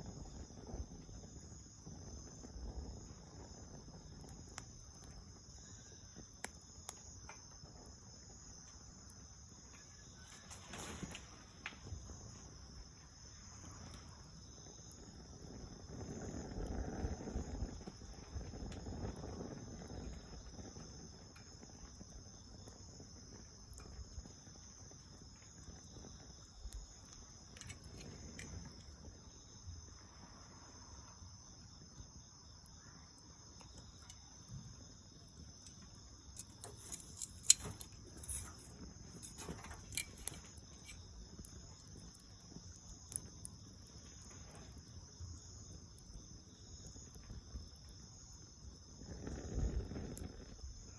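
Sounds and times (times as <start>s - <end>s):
crickets trilling: 0.0s - 50.9s
fire crackling and popping: 0.0s - 50.9s.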